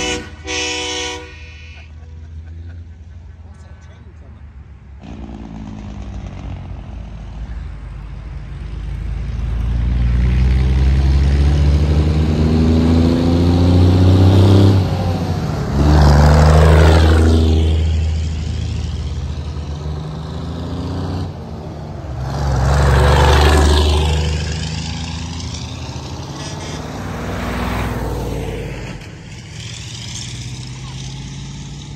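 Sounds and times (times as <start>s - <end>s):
passing car tyres: 0.0s - 31.9s
truck diesel engine accelerating: 5.0s - 31.9s.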